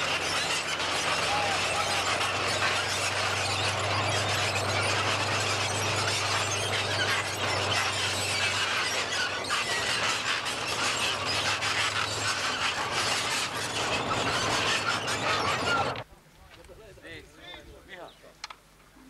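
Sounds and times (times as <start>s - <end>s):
tank engine drone: 0.0s - 16.0s
tank tracks squealing and clattering: 0.0s - 16.0s.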